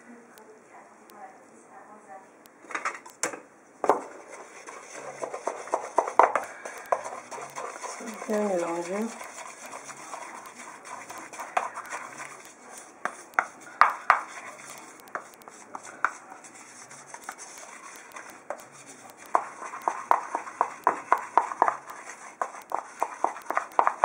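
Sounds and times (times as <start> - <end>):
wooden spatula scraping bowl: 3.9 - 24.0.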